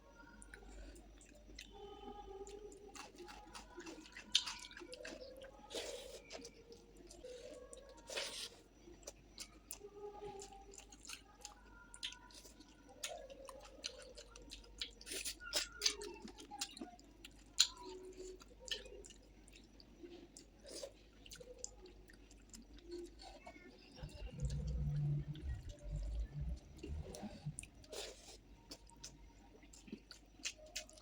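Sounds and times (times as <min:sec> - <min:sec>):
person chewing food: 0:00.1 - 0:31.0.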